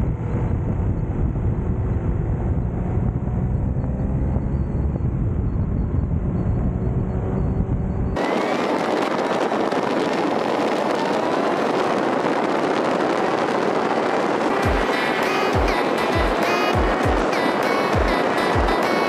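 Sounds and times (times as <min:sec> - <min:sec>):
motorcycle engine rumble: 0:00.0 - 0:19.0
wind rushing past: 0:00.0 - 0:19.0.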